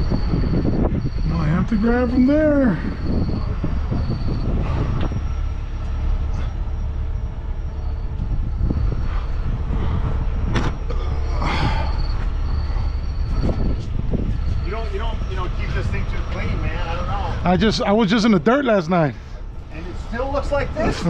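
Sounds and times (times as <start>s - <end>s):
large vehicle engine idling: 0.0s - 21.0s.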